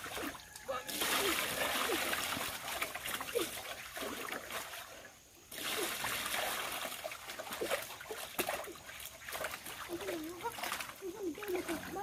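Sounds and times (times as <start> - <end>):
muddy water splashing and pouring: 0.0 - 12.0.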